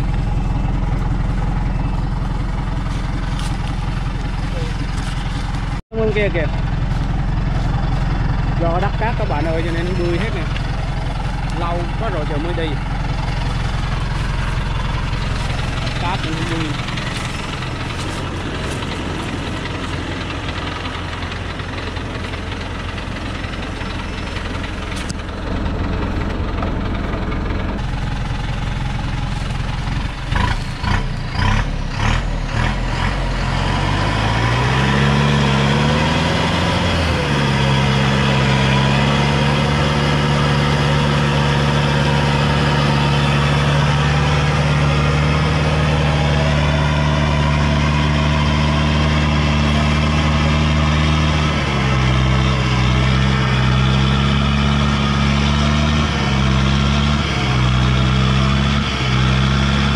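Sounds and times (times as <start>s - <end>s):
diesel truck engine idling and revving: 0.0s - 59.9s.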